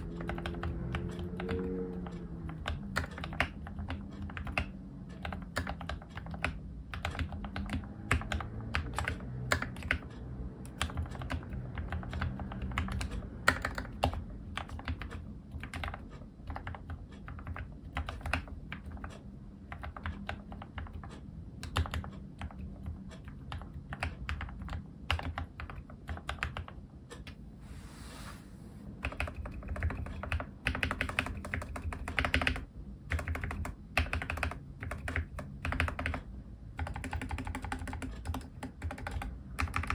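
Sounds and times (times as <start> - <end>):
mechanical keyboard typing: 0.0 - 27.4, 29.0 - 39.9.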